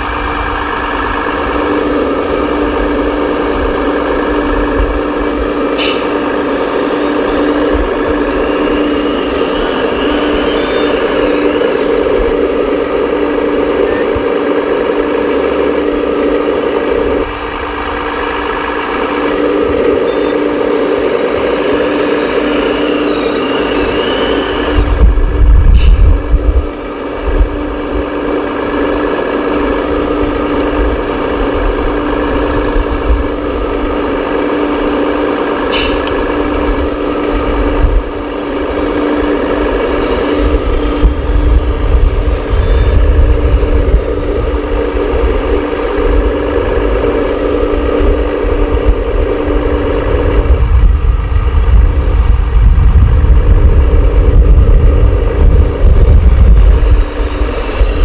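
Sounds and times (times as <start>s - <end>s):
loud low rumble: 0.0s - 58.0s
model excavator mechanical drone: 0.0s - 58.0s.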